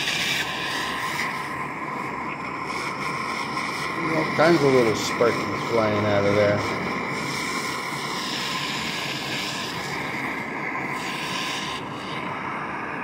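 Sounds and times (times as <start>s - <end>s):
gas torch flame rushing: 0.0s - 13.0s.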